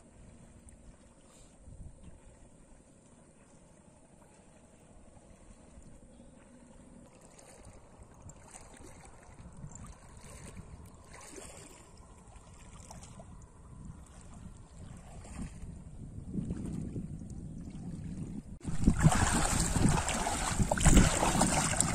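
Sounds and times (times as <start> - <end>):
water sloshing and splashing: 0.0 - 21.9.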